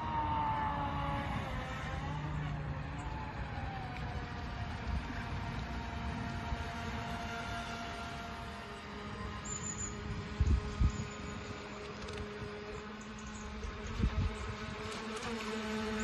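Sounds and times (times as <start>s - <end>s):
distant rc boat motor whine: 0.0s - 16.0s.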